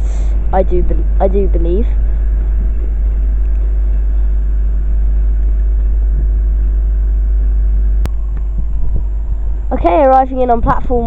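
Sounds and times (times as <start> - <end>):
diesel train engine rumbling: 0.0 - 11.0.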